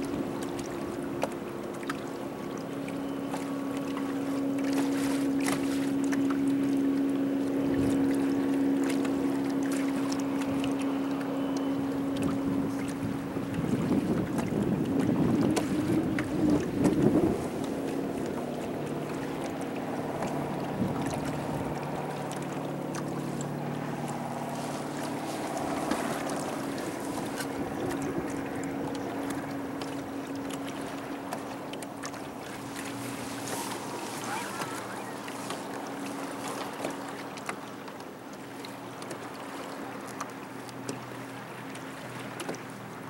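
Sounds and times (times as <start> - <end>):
motorboat engine running: 0.0 - 43.0
water splashing along hull: 0.0 - 43.0.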